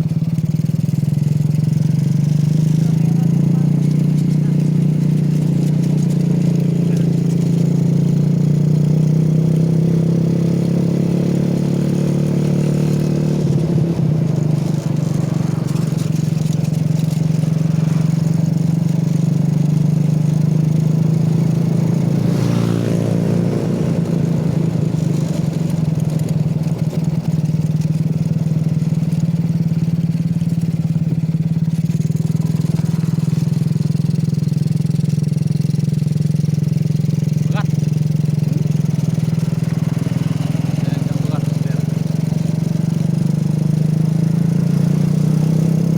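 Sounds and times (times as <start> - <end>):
go-kart engine running: 0.0 - 45.9.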